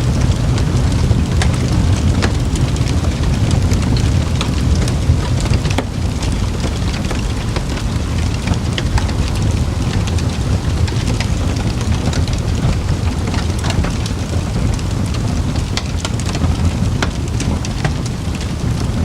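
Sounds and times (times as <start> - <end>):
campfire crackling and popping: 0.0 - 19.0
low rumble: 0.0 - 19.0.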